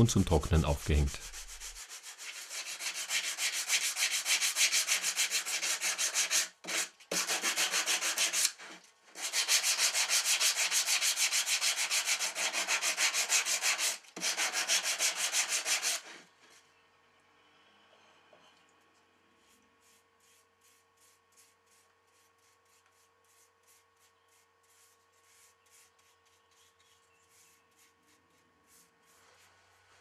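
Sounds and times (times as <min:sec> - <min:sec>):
sanding block rasping on wood: 0:00.9 - 0:16.2, 0:19.8 - 0:29.5.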